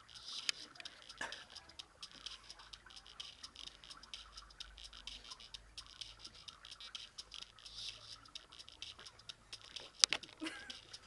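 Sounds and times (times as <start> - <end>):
dubstep through earbuds: 0.0 - 11.0.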